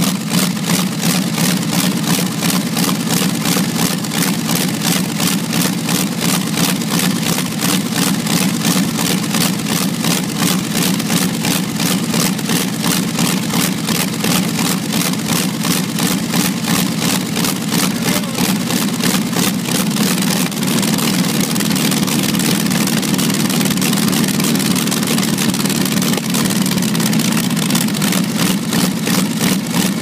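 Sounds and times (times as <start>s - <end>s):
aircraft-type engine idling: 0.0s - 30.0s.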